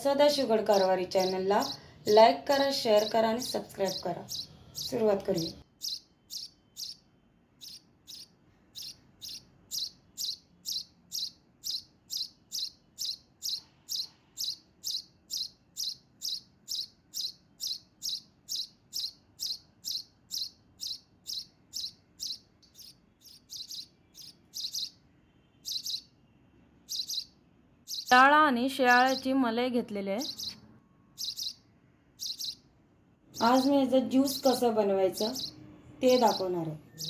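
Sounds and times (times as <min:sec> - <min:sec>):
bird chirping: 0:00.0 - 0:37.0.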